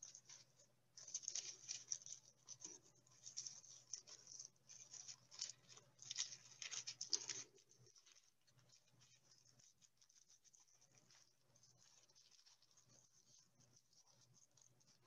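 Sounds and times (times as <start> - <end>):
tissue paper crinkling: 0.0 - 15.0.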